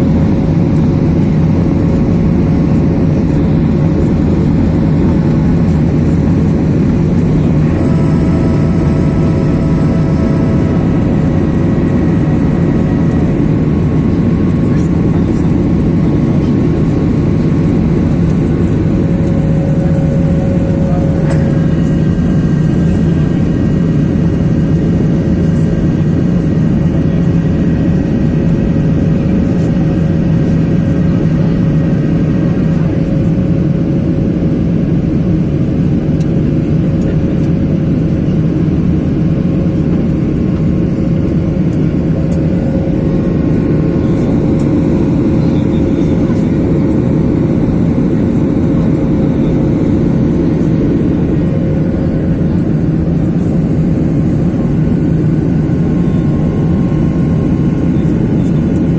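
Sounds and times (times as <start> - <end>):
steady cabin hum: 0.0 - 35.0, 35.9 - 58.9
jet engines and rushing air: 0.0 - 58.9.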